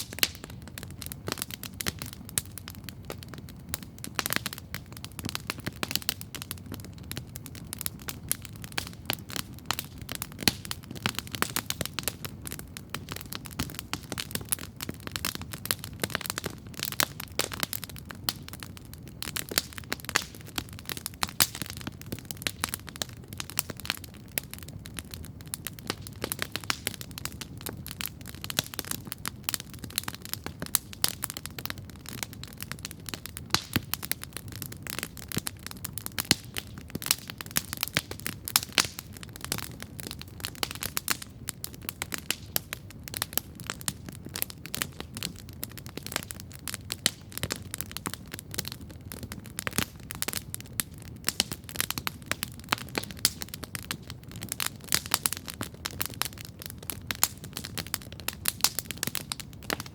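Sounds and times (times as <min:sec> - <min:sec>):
campfire crackling and popping: 0:00.0 - 0:59.9
low rumble of flames: 0:00.0 - 0:59.9.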